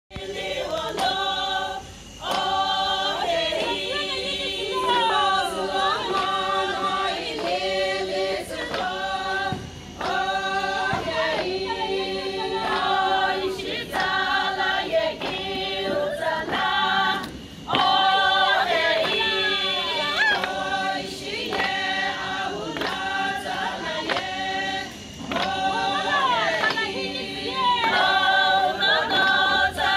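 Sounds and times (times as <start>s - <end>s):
women singing unaccompanied: 0.1s - 29.9s.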